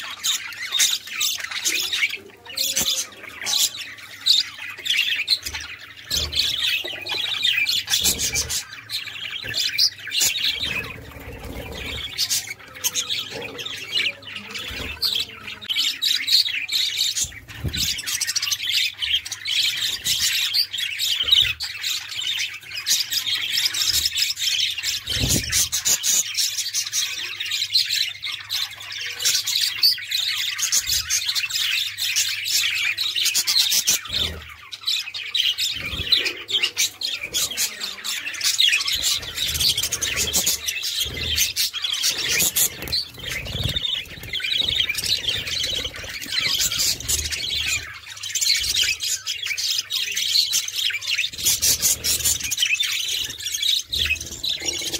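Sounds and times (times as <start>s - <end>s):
budgerigars chattering: 0.0s - 54.9s.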